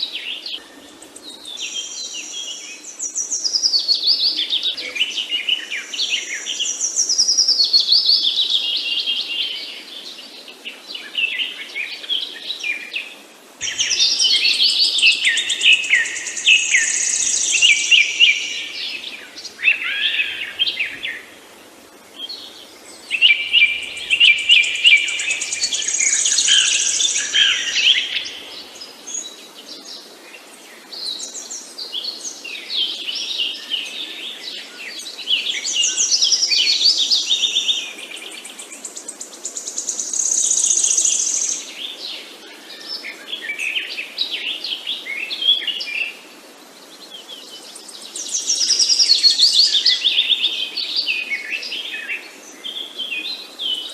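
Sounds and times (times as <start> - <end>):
faint background hiss: 0.0 - 53.9
songbirds chirping and singing: 0.0 - 53.9.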